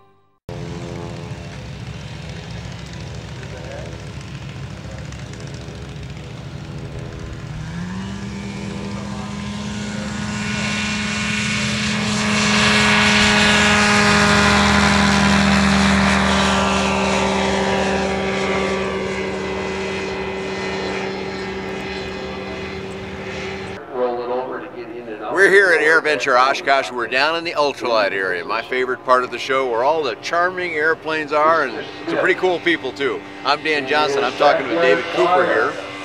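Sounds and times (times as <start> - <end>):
ultralight plane engine and propeller: 0.5 - 36.0.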